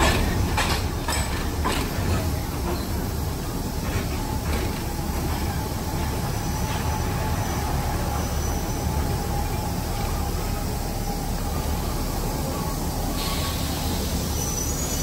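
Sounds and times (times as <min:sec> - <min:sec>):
diesel railcar engine running: 0:00.0 - 0:15.0.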